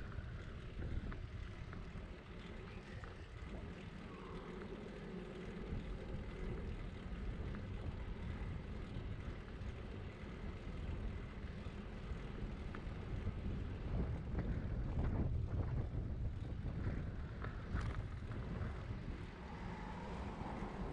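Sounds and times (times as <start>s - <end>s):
road noise: 0.0s - 20.9s
wind rumbling on microphone: 0.0s - 20.9s.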